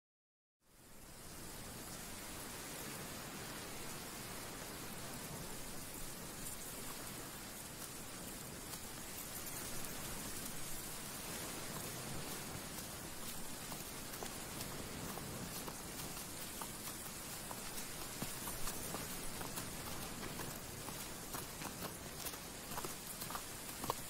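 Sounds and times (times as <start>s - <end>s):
steady hiss: 0.6s - 24.0s.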